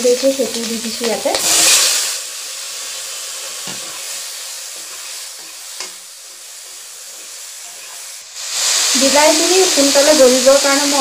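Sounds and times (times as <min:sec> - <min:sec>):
tomato sizzling in hot oil: 0:00.0 - 0:11.0.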